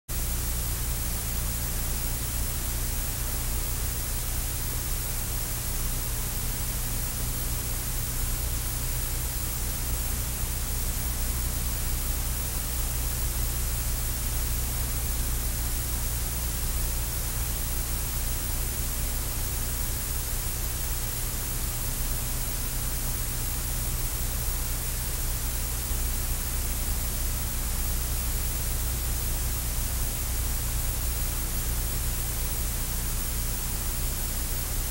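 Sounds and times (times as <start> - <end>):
tape hiss: 0.1 - 34.9.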